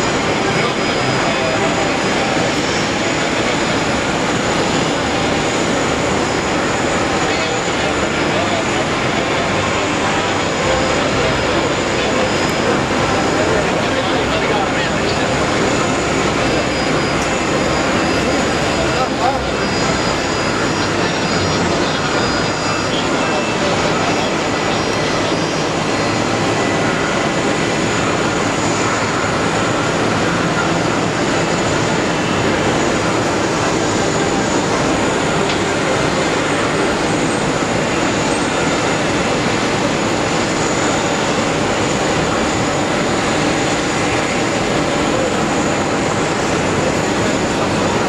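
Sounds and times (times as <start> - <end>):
distant jet engines roaring: 0.0 - 48.0.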